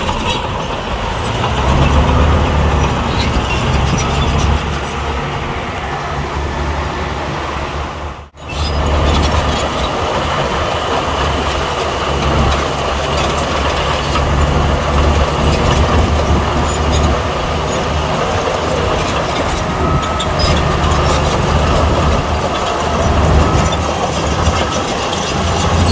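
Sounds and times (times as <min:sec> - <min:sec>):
bulldozer diesel engine running: 0:00.0 - 0:25.9
grinding machine noise: 0:00.0 - 0:25.9.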